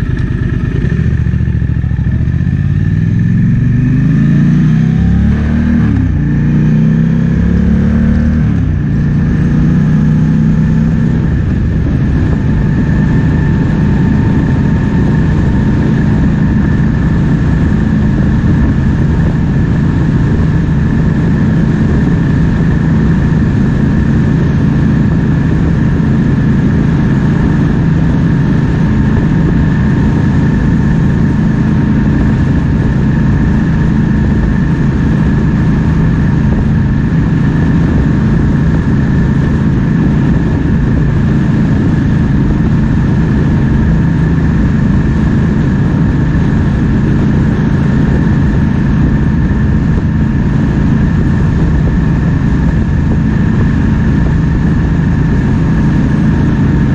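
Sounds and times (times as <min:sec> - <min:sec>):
motorcycle engine revving: 0:00.0 - 0:56.9
wind noise on microphone: 0:00.0 - 0:56.9.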